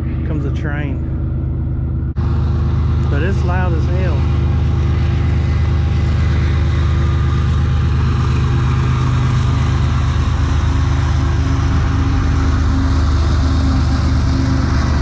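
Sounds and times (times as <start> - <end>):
locomotive engine drone: 0.0 - 15.0
train passing: 0.0 - 15.0.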